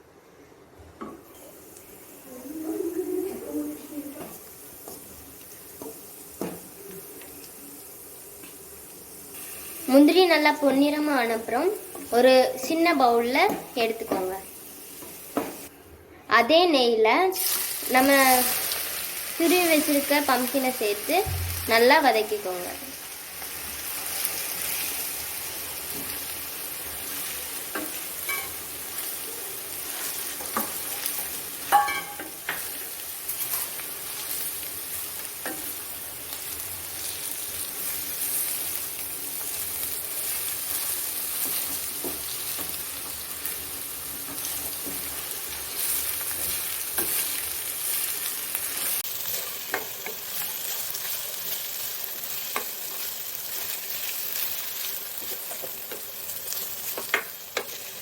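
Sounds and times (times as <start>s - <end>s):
food sizzling in a pan: 1.2s - 15.8s, 16.8s - 58.0s.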